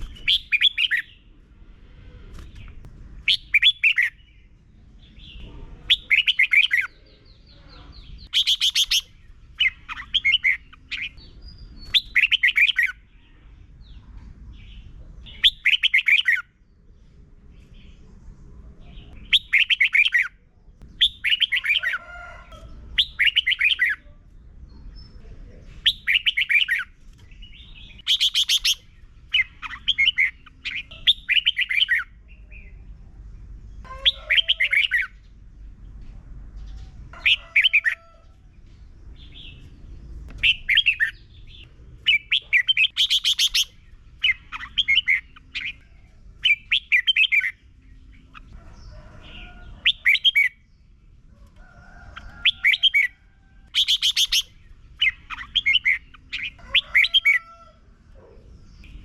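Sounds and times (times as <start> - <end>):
bird singing warbling phrases: 0.0 - 1.4, 2.3 - 16.6, 18.7 - 22.0, 22.6 - 33.1, 33.7 - 35.3, 39.1 - 51.0, 52.2 - 59.0.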